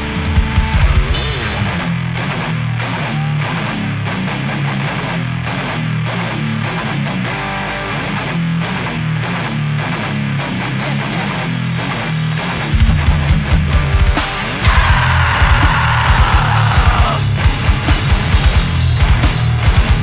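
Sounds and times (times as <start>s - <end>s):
distorted electric guitars and bass: 0.0s - 20.0s.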